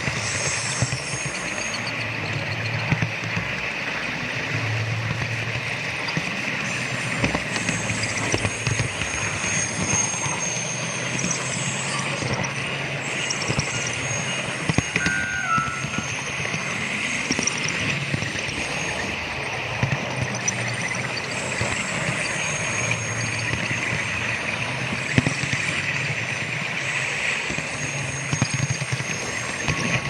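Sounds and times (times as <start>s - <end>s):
model train humming and rumbling: 0.0s - 30.0s.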